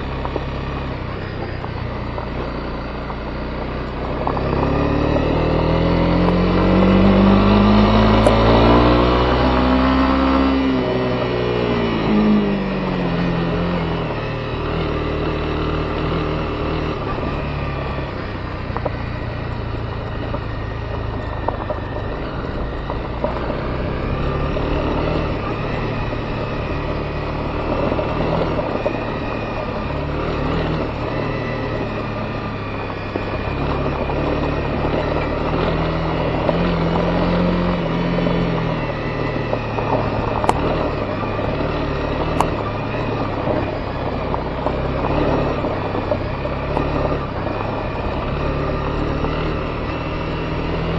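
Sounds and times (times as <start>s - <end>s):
motorcycle engine running: 0.0s - 50.9s
wind: 0.0s - 50.9s.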